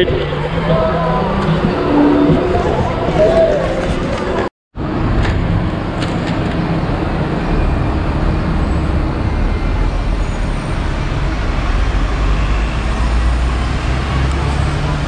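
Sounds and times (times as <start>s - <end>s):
city bus turning: 0.0s - 15.0s
rumble of engines and tyres: 0.0s - 15.0s.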